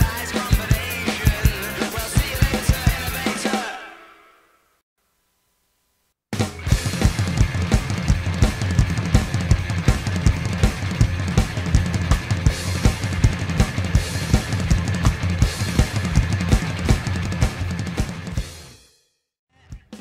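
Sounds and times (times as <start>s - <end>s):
electronic drum kit beat: 0.0s - 3.7s, 6.4s - 18.8s
rock song: 0.0s - 4.0s, 6.4s - 18.8s.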